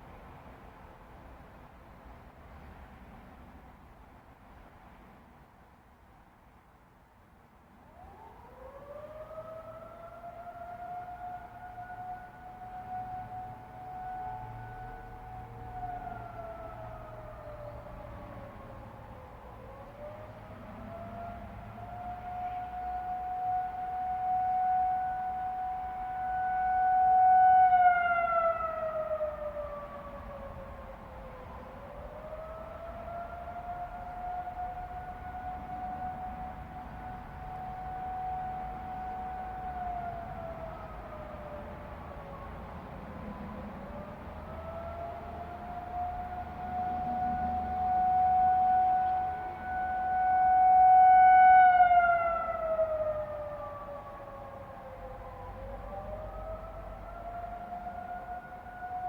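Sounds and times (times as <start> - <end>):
warning siren wailing: 7.9 - 59.0.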